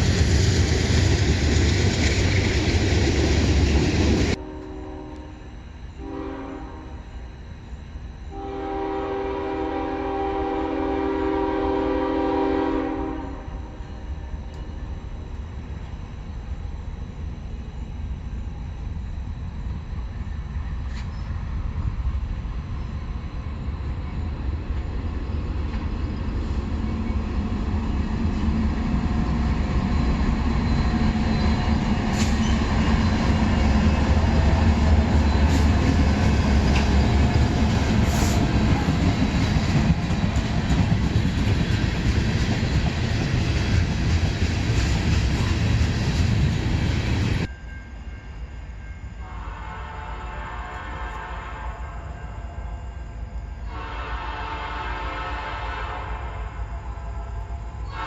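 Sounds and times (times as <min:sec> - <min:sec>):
train passing with low rumble: 0:00.0 - 0:58.0.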